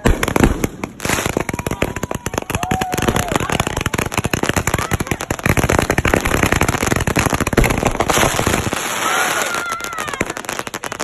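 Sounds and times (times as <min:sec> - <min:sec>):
fireworks crackling pops: 0:00.0 - 0:11.0.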